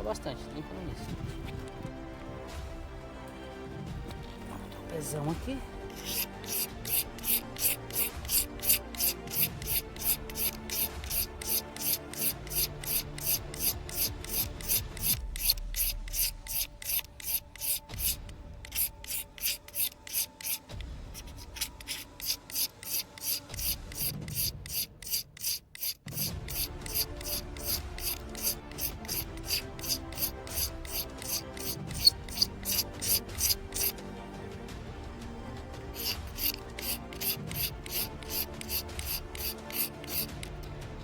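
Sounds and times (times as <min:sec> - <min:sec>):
fire-starter bar rasping: 0:05.8 - 0:34.0, 0:35.8 - 0:40.8.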